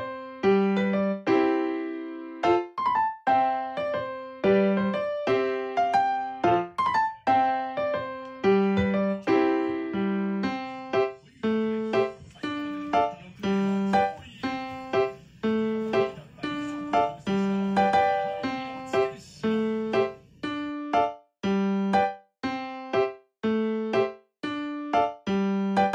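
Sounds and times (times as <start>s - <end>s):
light piano tune: 0.0s - 25.9s.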